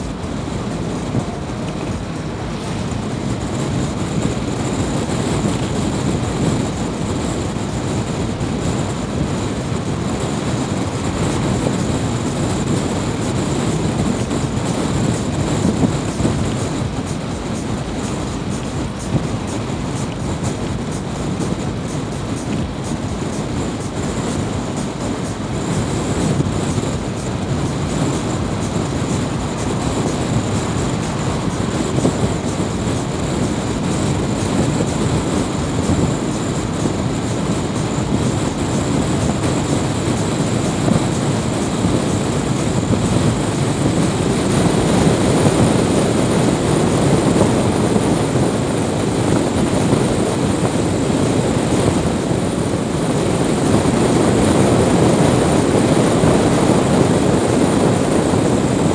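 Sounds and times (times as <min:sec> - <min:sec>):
car engine and tyre noise: 0:00.0 - 0:58.9.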